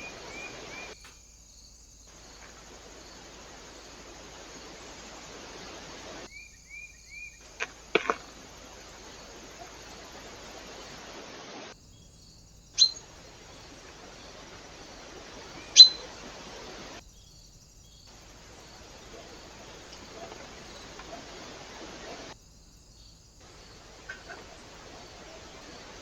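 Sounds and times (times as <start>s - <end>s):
sharp bird calls: 0.0s - 1.4s, 2.1s - 11.2s, 11.8s - 22.4s
microphone hiss: 0.0s - 26.0s.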